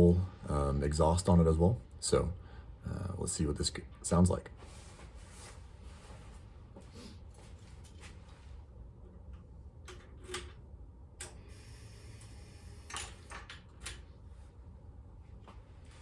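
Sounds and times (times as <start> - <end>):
low steady rumble: 0.0 - 12.9.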